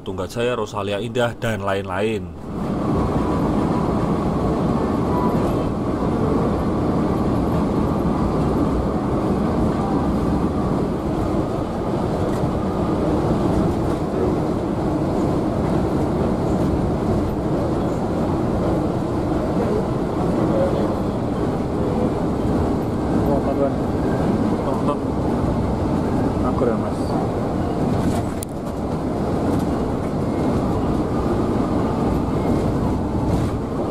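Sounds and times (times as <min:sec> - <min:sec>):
coach engine and tyre rumble: 0:00.0 - 0:33.9.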